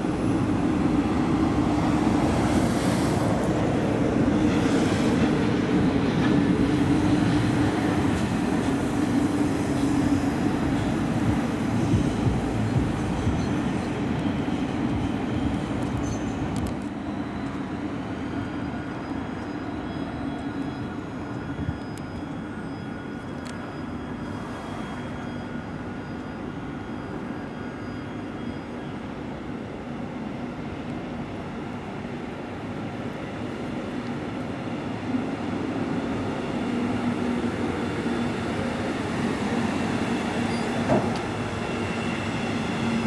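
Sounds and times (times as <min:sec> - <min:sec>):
electric trains rumbling: 0:00.0 - 0:43.0.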